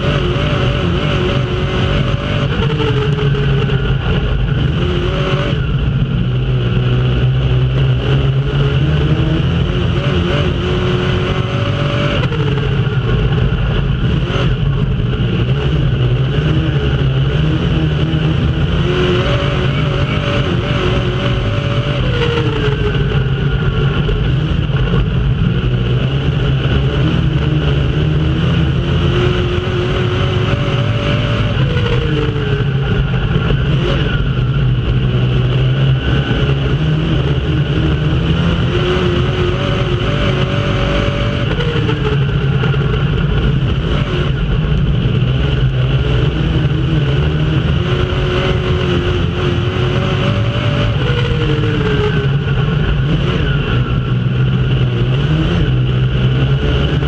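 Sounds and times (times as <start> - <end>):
drivetrain and tyre rumble: 0.0 - 57.0
race car engine revving: 0.0 - 57.0.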